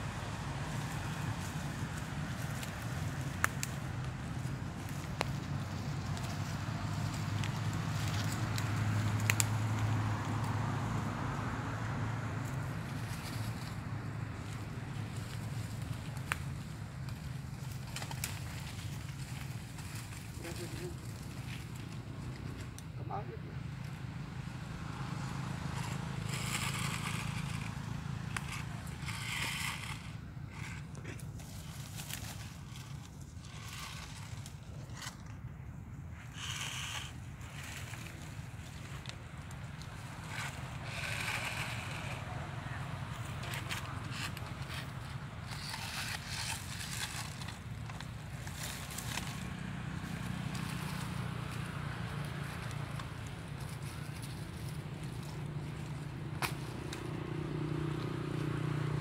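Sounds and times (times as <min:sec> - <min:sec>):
rustling in dry leaves: 0:00.0 - 0:59.0.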